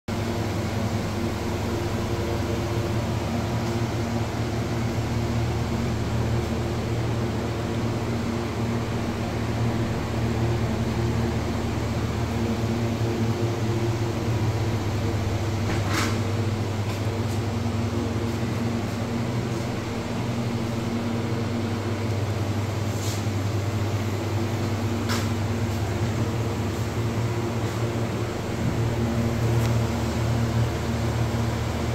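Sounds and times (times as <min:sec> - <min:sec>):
fans humming: 0:00.1 - 0:31.9.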